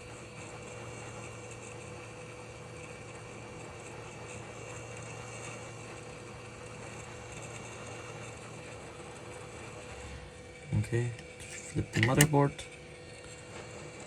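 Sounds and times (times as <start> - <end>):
hot air blower hissing: 0.0 - 14.0.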